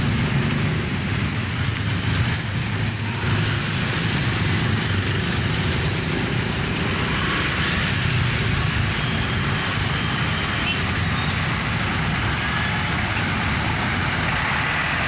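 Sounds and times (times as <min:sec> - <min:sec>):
heavy vehicle engines droning: 0:00.0 - 0:15.0.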